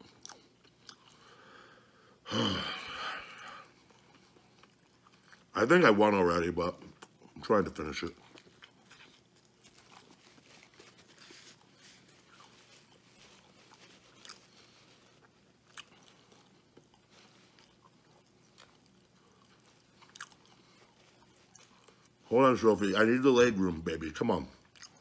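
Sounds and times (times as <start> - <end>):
faint chewing: 0.0 - 1.9, 3.2 - 22.6, 24.4 - 25.0.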